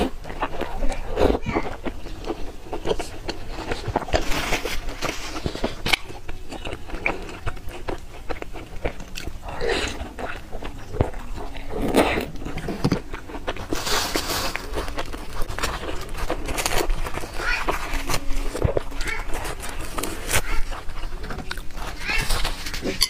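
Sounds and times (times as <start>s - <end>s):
chewing soaked food: 0.0s - 23.0s.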